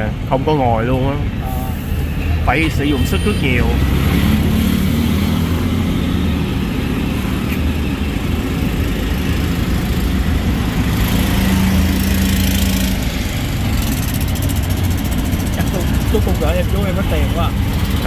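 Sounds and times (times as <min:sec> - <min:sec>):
auto-rickshaw engine hum: 0:00.0 - 0:18.0
traffic engine rumble: 0:00.0 - 0:18.0.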